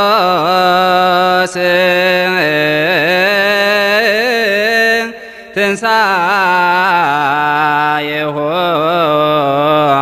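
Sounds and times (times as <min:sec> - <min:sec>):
man chanting a hymn: 0:00.0 - 0:10.0.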